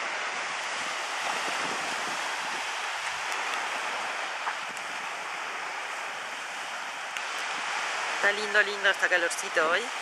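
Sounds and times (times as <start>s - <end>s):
small waves breaking on sand: 0.0s - 10.0s.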